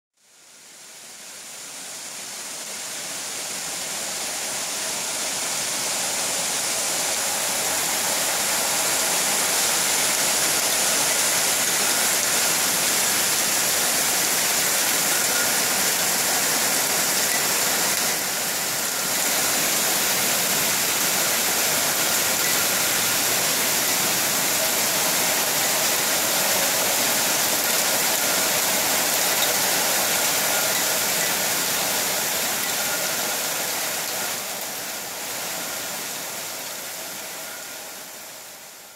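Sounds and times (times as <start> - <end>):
heavy rain: 0.2 - 38.9.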